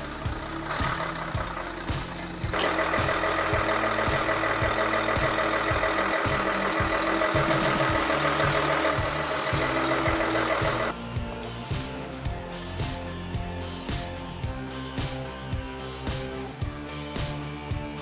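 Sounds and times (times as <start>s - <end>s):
background music with beat: 0.0s - 18.0s
steady whine: 0.0s - 18.0s.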